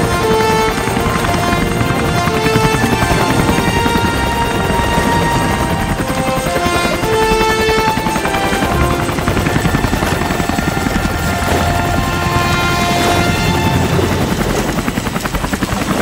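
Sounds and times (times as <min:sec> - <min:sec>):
simple melody of held notes: 0:00.0 - 0:14.2
helicopter rotor chopping: 0:00.0 - 0:16.0.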